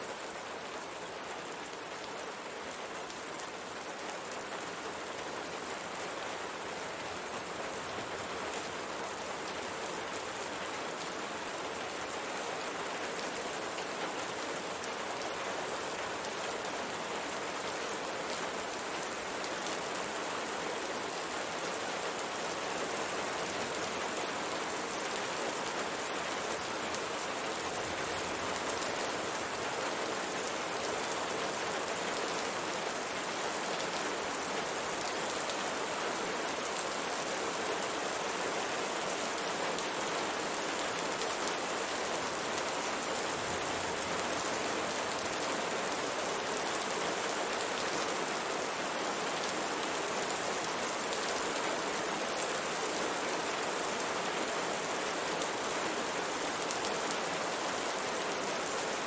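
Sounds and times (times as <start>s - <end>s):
rain on a window pane: 0.1s - 59.0s.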